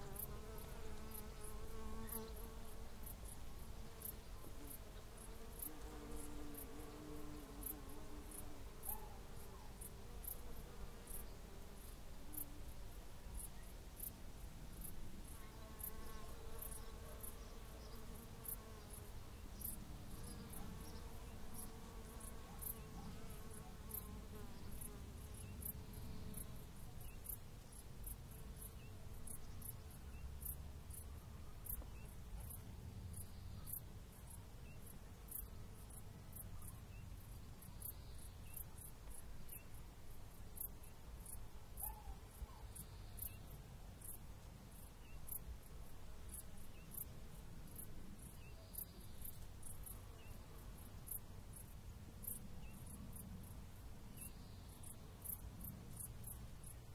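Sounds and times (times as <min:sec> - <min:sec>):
cricket chirping: 0:00.0 - 0:12.6, 0:13.4 - 0:56.9.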